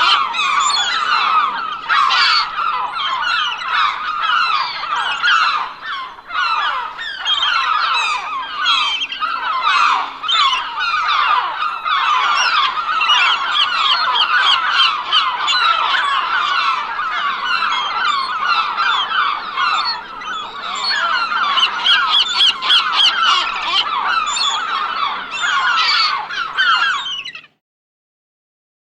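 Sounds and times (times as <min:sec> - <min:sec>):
gulls squawking: 0:00.0 - 0:27.5.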